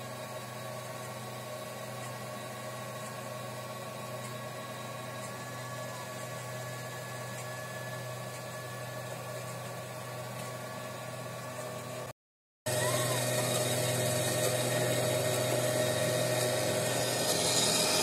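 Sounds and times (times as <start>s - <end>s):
constant machine tones: 0.0s - 12.1s, 12.7s - 18.0s
electric motor hum: 0.0s - 12.1s, 12.7s - 18.0s
fan whir: 0.0s - 12.1s, 12.7s - 18.0s.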